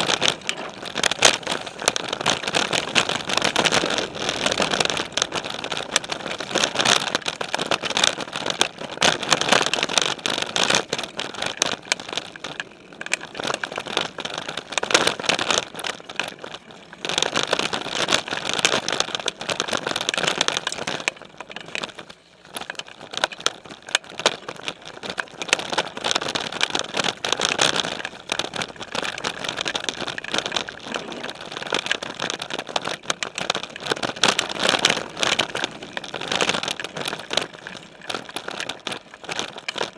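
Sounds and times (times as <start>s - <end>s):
bike rattling and knocking: 0.0s - 39.9s
bike tyres on dirt and rocks: 0.0s - 39.9s.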